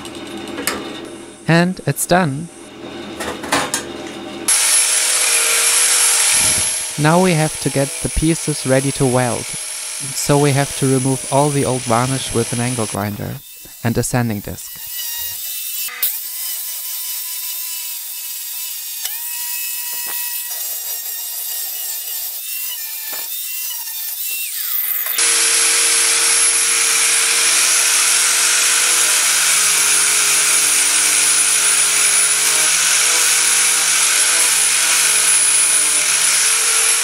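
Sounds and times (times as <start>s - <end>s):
angle grinder sanding steel: 4.5s - 37.0s.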